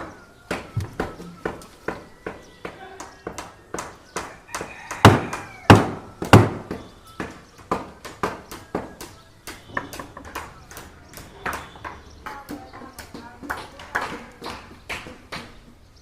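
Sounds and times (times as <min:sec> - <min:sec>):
sharp knocks and taps: 0:00.5 - 0:15.7.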